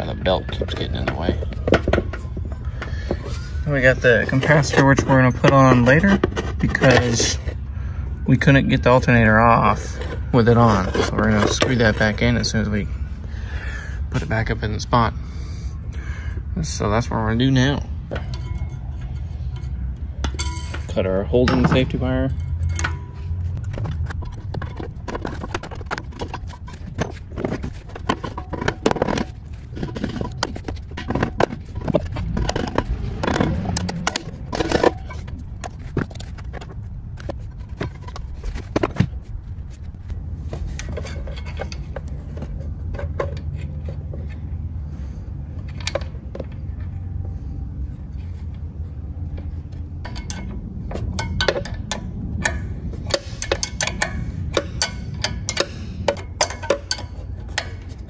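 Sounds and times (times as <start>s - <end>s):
metal clinks and scrapes: 0.0s - 13.2s, 16.7s - 58.0s
low hum: 0.0s - 58.0s.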